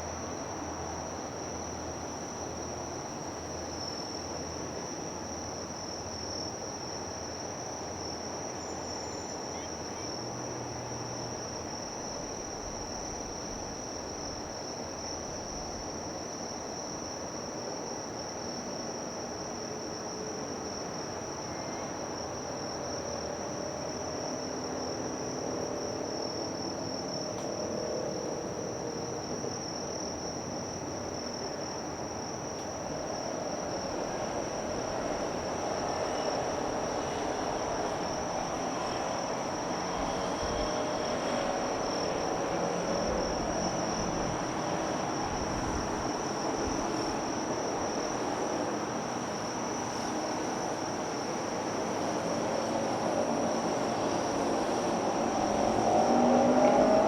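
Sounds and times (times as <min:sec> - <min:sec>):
high-pitched insect chorus: 0:00.1 - 0:57.0.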